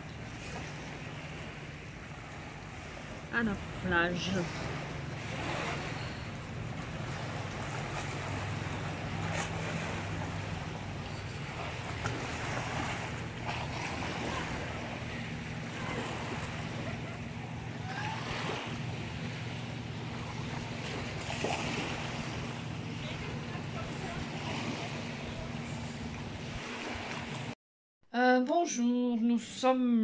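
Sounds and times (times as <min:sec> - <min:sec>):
low steady hum: 0:00.0 - 0:27.6
waves lapping onto beach: 0:00.0 - 0:27.6.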